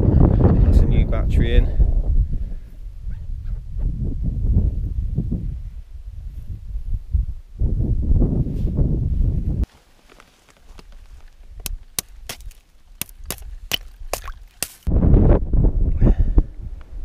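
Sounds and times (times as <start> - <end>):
wind rumbling on microphone: 0.0 - 9.8, 13.1 - 17.0.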